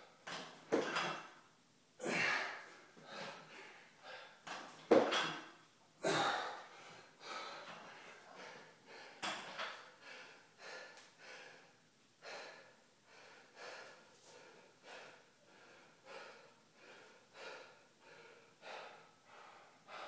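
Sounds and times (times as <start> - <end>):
man breathing hard: 2.0 - 4.6, 6.0 - 20.0.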